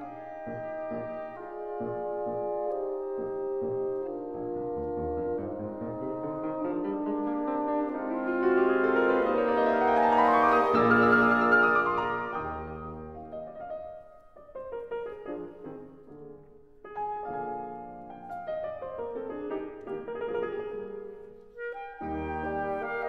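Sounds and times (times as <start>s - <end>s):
classical piano music: 0.0s - 23.0s.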